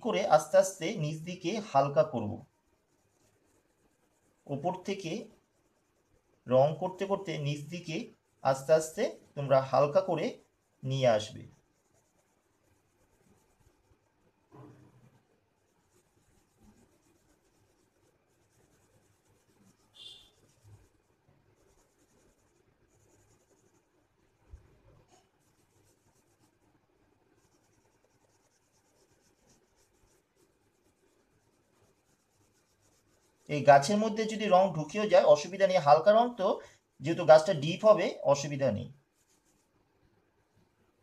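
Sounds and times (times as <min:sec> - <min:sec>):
crayon scratching on paper: 0:00.0 - 0:39.8.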